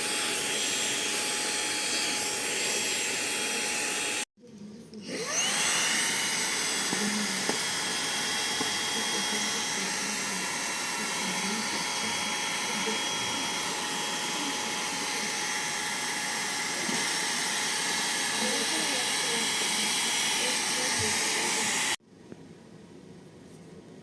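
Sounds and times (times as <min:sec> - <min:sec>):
handheld vacuum cleaner whine: 0:00.0 - 0:04.3, 0:05.0 - 0:22.0.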